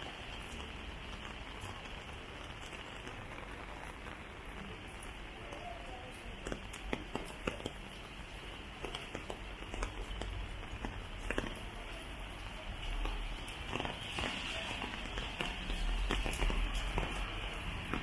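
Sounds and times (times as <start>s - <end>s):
rain hissing on wet pavement: 0.0s - 18.0s
raindrops ticking: 0.0s - 18.0s.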